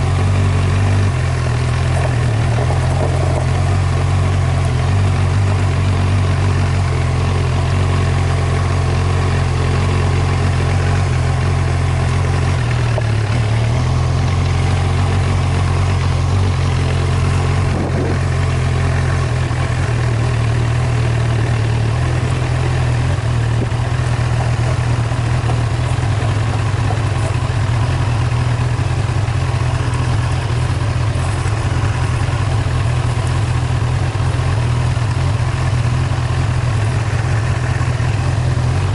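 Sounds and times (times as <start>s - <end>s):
vehicle engine driving: 0.0s - 38.9s.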